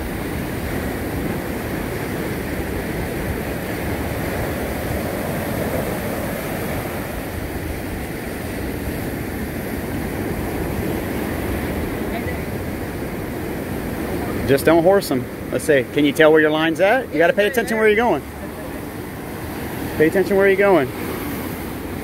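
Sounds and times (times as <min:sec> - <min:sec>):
ocean surf washing on beach: 0:00.0 - 0:22.0.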